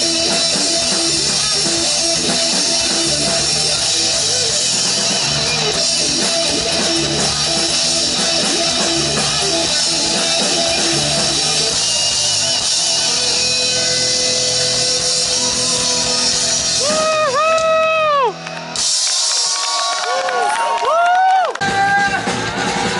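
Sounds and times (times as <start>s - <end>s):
rock music with guitars and drums: 0.0s - 19.5s, 21.6s - 22.9s.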